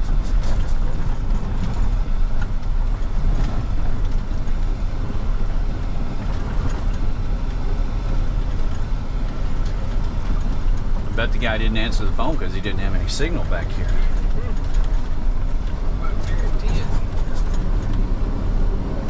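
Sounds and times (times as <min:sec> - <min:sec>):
truck driving on gravel: 0:00.0 - 0:19.0.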